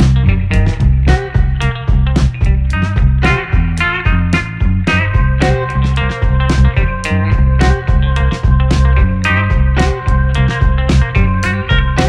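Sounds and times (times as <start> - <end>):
upbeat guitar rock music: 0.0 - 12.0.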